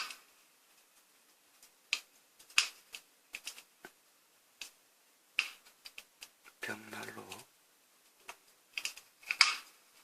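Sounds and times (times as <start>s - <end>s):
firewood crackling and popping: 0.0s - 10.0s.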